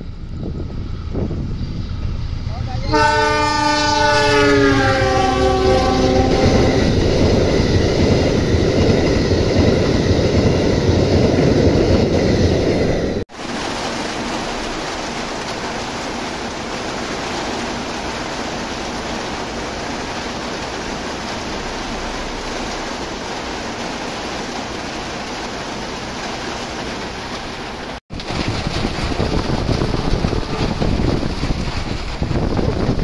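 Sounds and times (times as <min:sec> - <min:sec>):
heavy rain pouring: 0:02.6 - 0:11.6, 0:13.2 - 0:33.0.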